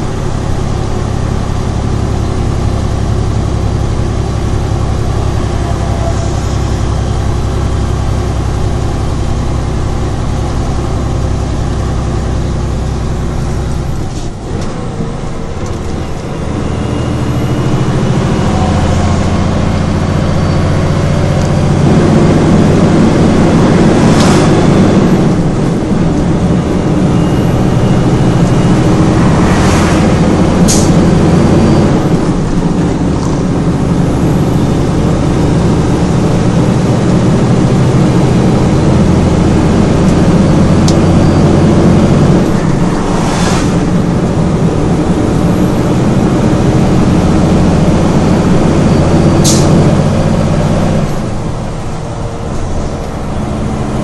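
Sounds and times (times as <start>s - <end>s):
truck diesel engine pulling through gears: 0.0s - 54.0s.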